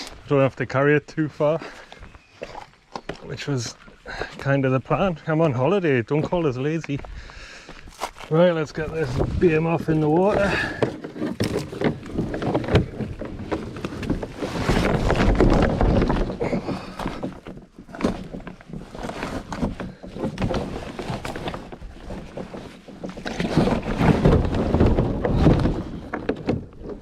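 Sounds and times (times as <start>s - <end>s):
kayak hull scraping and knocking: 0.0s - 27.0s.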